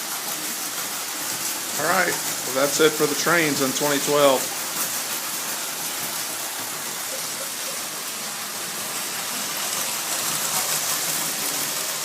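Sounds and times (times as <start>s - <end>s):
toy trains rolling: 0.0s - 12.0s.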